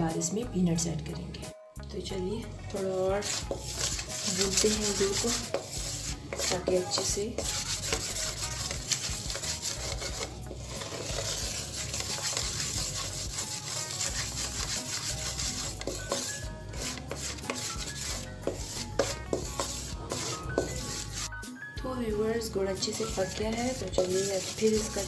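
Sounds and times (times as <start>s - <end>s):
spoon scraping metal pan: 3.0s - 21.4s, 22.8s - 25.0s.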